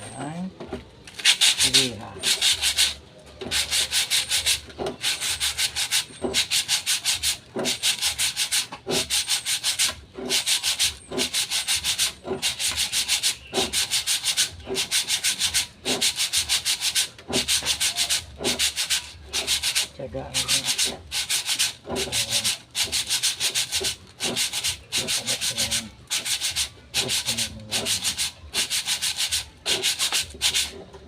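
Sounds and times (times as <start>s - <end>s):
sandpaper rubbing on metal drum: 1.2s - 30.9s.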